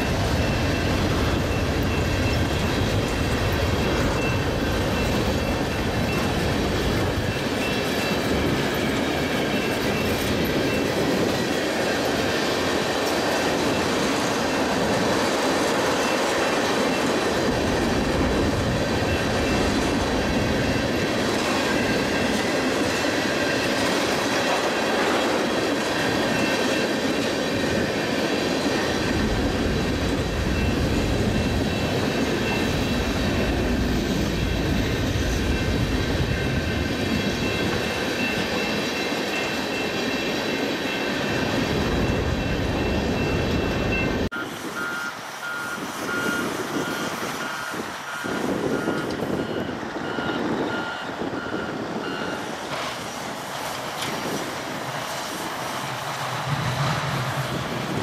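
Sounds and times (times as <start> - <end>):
freight train rolling past: 0.0 - 58.0
high squealing wheels: 0.0 - 58.0.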